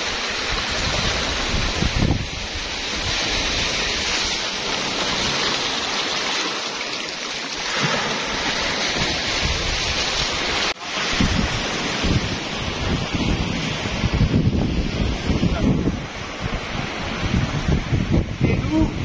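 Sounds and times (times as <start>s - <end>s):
wind buffeting microphone: 0.0s - 4.7s, 8.3s - 19.0s
waves washing onto sand: 0.0s - 19.0s.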